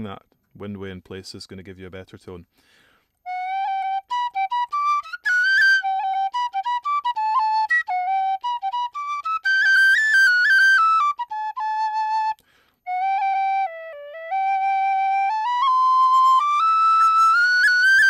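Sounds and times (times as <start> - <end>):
penny whistle playing tune: 3.3 - 18.0.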